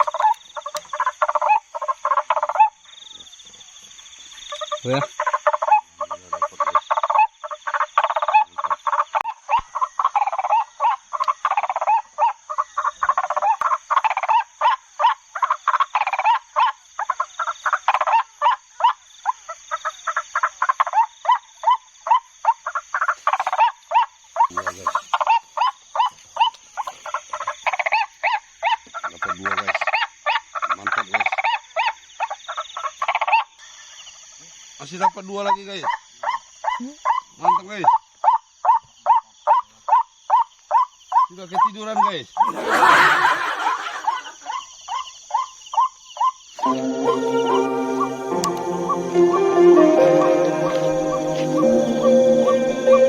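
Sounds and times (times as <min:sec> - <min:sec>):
recorded bird croaking call: 0:00.0 - 0:03.7, 0:04.4 - 0:53.0.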